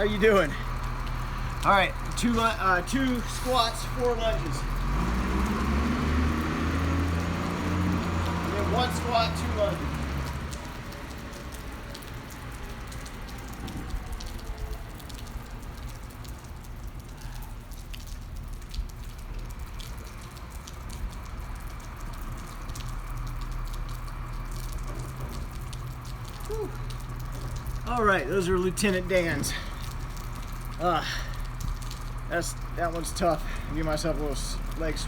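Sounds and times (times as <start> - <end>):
drops ticking: 0.0 - 35.0
rain falling: 0.0 - 35.0.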